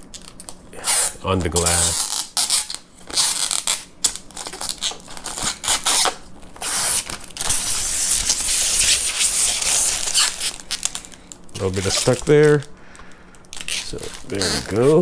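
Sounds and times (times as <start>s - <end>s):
plastic film peeling off glass: 0.1s - 12.7s, 13.4s - 15.0s.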